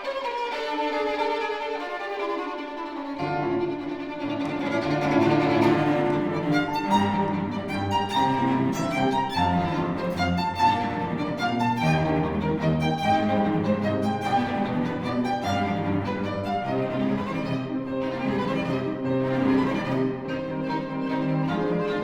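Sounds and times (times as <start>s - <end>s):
cello: 0.0s - 22.0s
violin: 0.0s - 22.0s.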